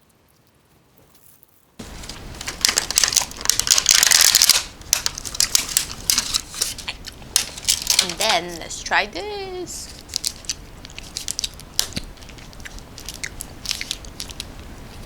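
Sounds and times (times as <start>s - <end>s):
plastic packaging crinkling: 1.0s - 15.0s.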